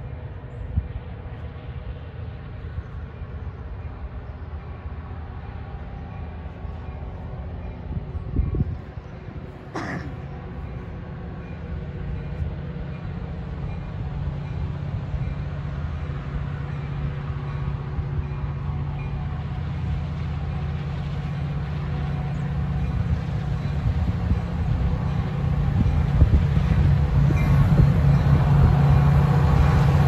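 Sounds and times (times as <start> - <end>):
diesel locomotive engine drone: 0.0 - 30.0
rail rumble: 0.0 - 30.0.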